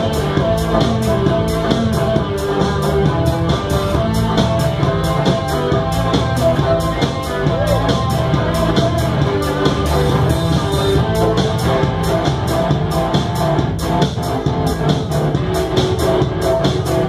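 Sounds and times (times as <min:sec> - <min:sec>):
drum kit beat: 0:00.0 - 0:17.0
live band playing: 0:00.0 - 0:17.0.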